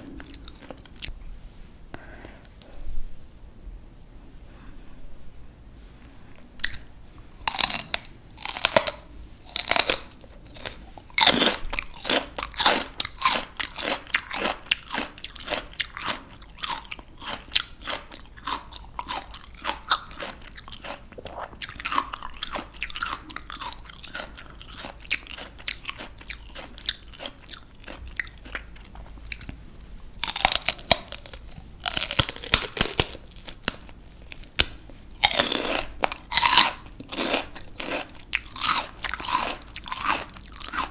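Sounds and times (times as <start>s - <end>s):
crunching raw vegetables: 6.6s - 40.9s.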